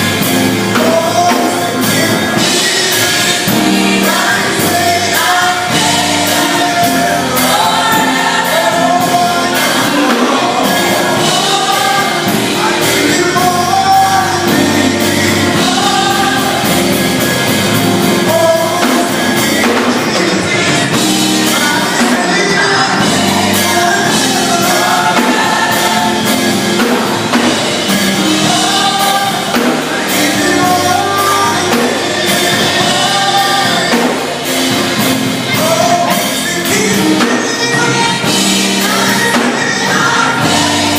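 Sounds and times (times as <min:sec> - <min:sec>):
band playing with steady beat: 0:00.0 - 0:40.9
group singing: 0:00.0 - 0:40.9.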